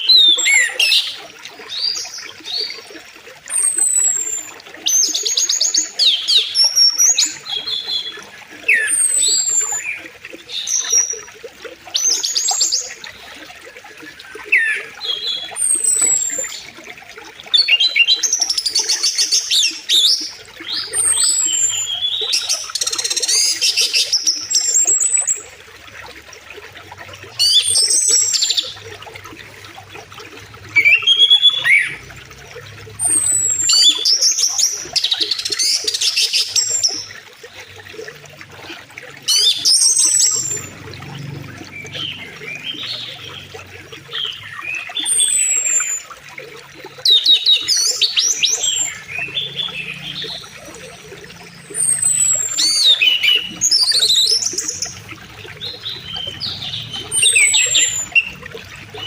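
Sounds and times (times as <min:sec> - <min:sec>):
songbirds singing: 0:00.0 - 0:26.0, 0:26.6 - 0:59.0
flowing river water: 0:00.0 - 0:59.0.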